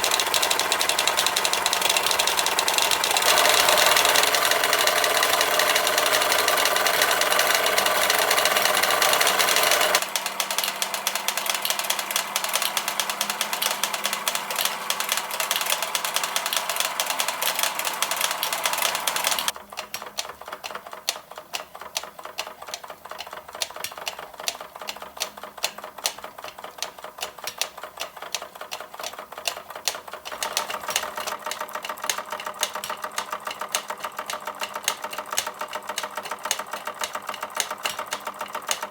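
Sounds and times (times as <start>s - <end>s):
model steam engine running: 0.0s - 38.9s
ticking clatter of model mill: 0.0s - 38.9s.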